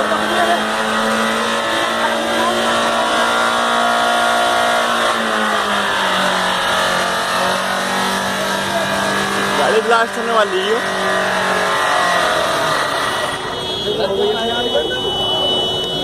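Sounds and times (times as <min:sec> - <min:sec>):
diesel engine running at high speed: 0:00.0 - 0:16.0.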